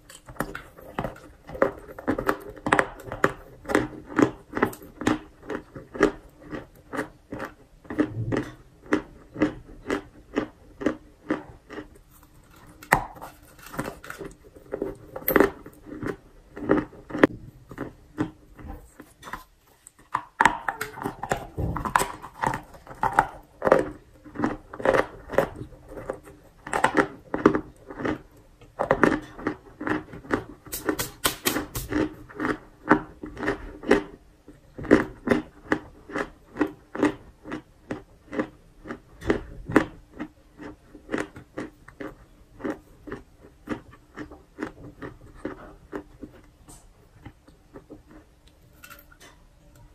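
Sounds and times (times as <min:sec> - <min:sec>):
crunchy chewing of chalk: 0:00.0 - 0:49.0.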